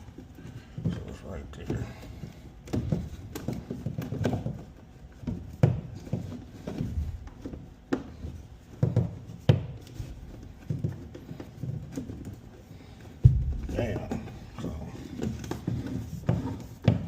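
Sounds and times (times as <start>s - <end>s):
electrical wire rustling: 0.0s - 17.0s.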